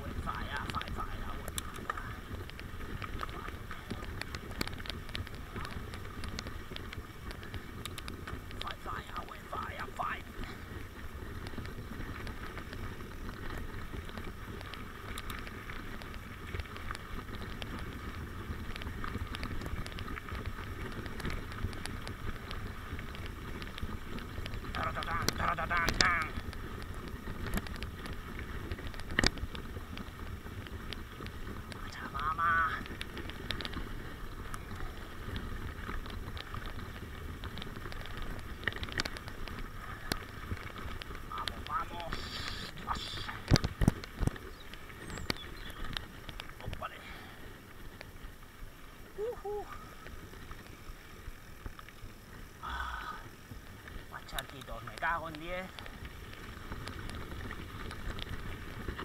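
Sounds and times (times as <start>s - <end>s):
bike tyres on gravel: 0.0s - 59.0s
stones clicking and rattling: 0.0s - 59.0s
wind rumble on microphone: 0.0s - 59.0s.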